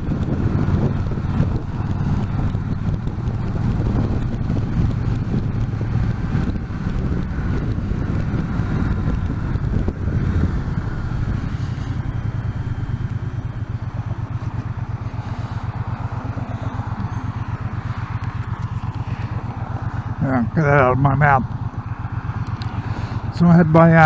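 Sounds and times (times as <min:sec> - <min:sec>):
wind on microphone: 0:00.0 - 0:20.2
motorcycle engine running: 0:00.0 - 0:24.0.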